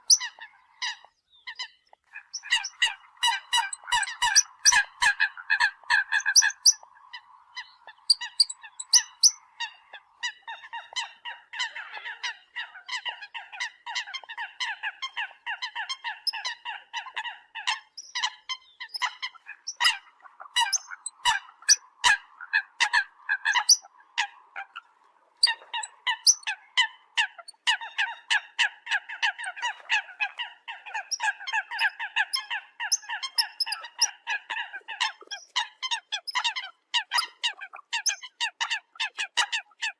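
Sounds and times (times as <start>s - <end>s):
coot calls: 0.0s - 39.9s.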